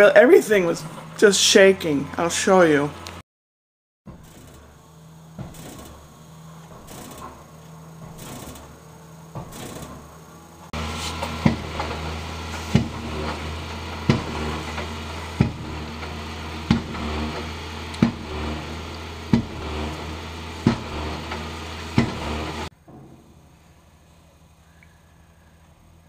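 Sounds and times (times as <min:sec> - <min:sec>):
machine engine running: 0:00.0 - 0:03.2, 0:04.1 - 0:22.7.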